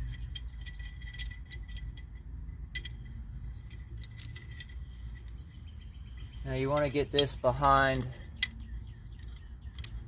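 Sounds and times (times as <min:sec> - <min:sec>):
metal clamp clicks and clinks: 0:00.0 - 0:05.4, 0:06.7 - 0:10.0
low background rumble: 0:00.0 - 0:10.0.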